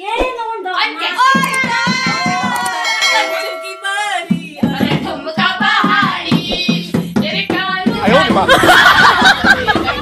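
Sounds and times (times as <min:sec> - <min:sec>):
dholak drum rhythm: 0:01.2 - 0:10.0.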